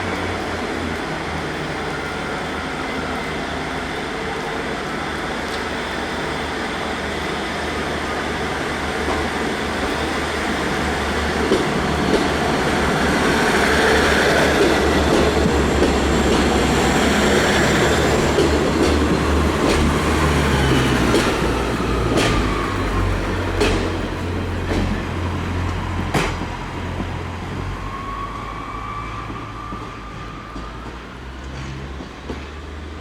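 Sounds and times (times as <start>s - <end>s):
low train engine drone: 0.0s - 33.0s
rail noise: 0.0s - 33.0s.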